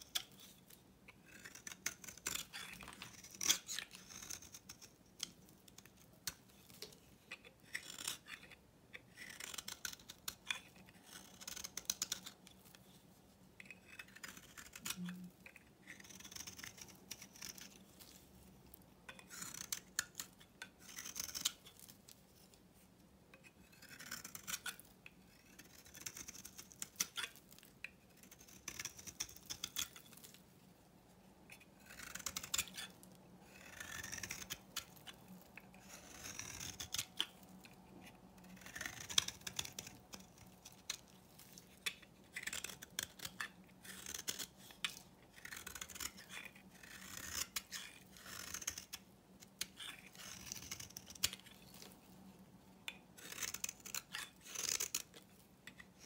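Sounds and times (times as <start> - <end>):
knife scraping soap: 0.0 - 13.0, 13.6 - 22.6, 23.3 - 30.5, 31.5 - 56.0.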